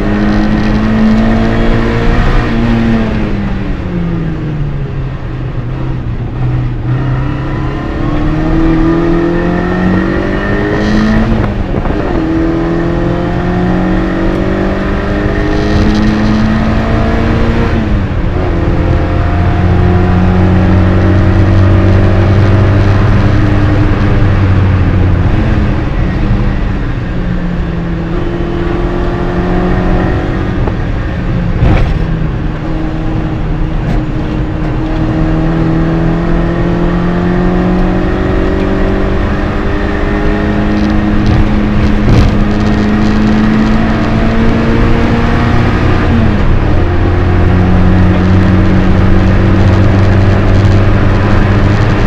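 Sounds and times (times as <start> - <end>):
race car engine revving: 0.0 - 4.6, 5.2 - 52.0.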